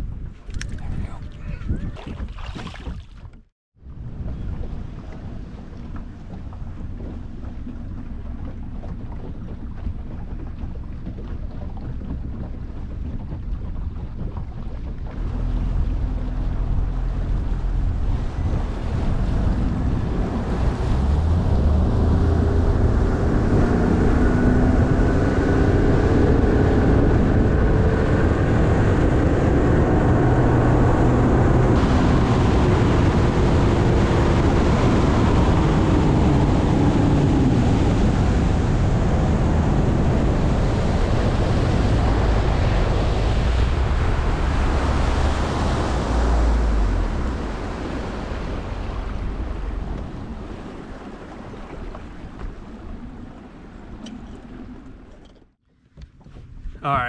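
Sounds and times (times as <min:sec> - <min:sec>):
water rushing past hull: 0:00.0 - 0:57.0
wind buffeting microphone: 0:00.0 - 0:57.0
outboard motor running: 0:00.5 - 0:57.0.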